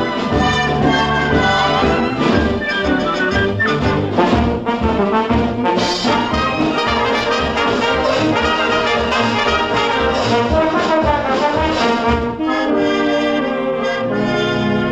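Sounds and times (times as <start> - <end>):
brassy orchestral theme music: 0.0 - 14.9.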